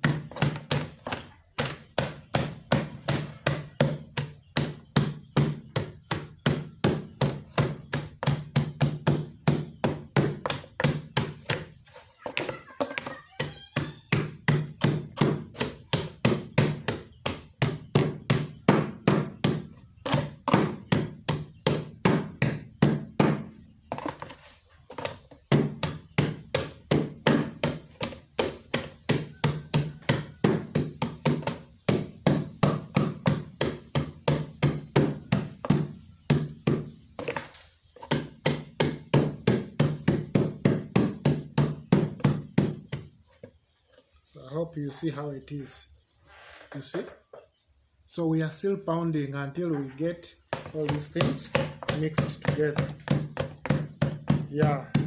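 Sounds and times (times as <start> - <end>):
rhythmic pounding thuds: 0.0 - 11.7, 12.4 - 23.6, 25.5 - 37.2, 38.0 - 43.2, 50.5 - 55.0.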